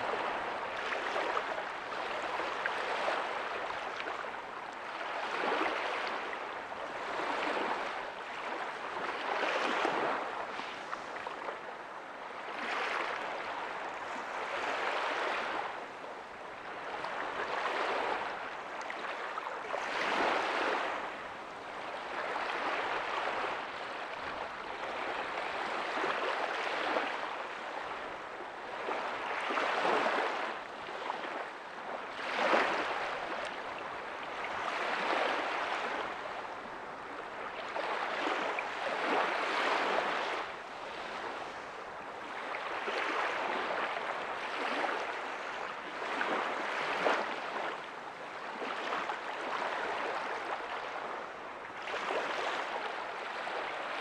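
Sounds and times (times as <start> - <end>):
small waves breaking softly: 0.0 - 54.0.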